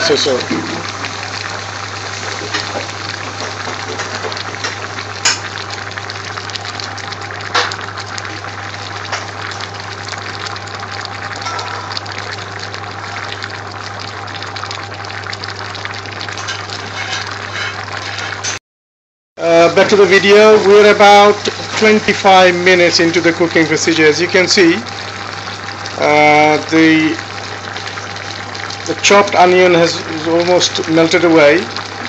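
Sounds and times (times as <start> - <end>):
vegetables sizzling in oil: 0.0 - 18.6, 19.6 - 32.0.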